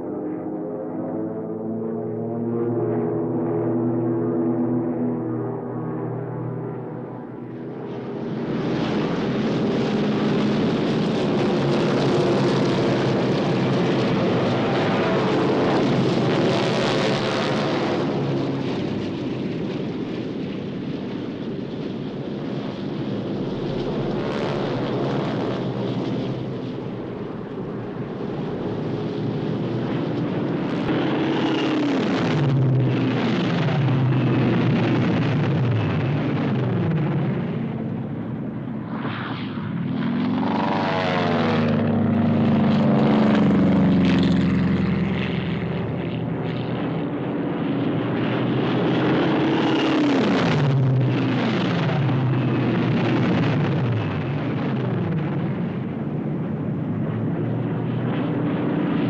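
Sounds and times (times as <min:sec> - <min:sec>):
jet engine whine falling: 0:00.0 - 0:59.0
jet engines rushing: 0:00.0 - 0:59.0.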